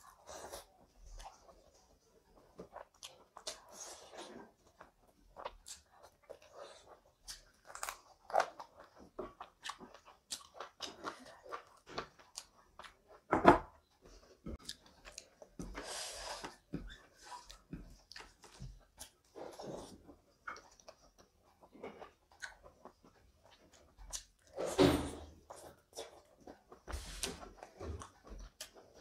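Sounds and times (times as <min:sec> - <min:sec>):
chewing and mouth smacks: 0:00.2 - 0:13.3, 0:14.5 - 0:24.6, 0:25.4 - 0:29.0.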